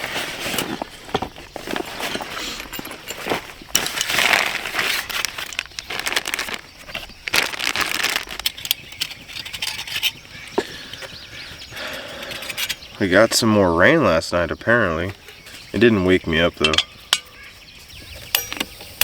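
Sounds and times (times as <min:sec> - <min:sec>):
rustling and crinkling: 0:00.0 - 0:19.0.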